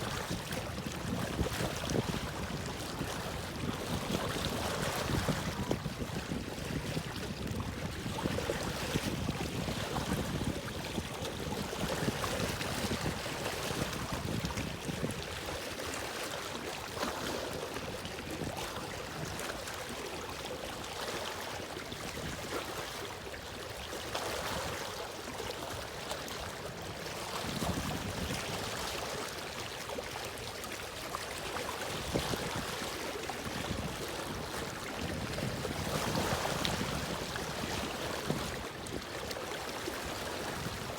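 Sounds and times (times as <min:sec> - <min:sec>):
wind on microphone: 0:00.0 - 0:16.0, 0:16.6 - 0:20.1, 0:25.8 - 0:29.8, 0:31.3 - 0:40.9
moving water: 0:00.0 - 0:40.9.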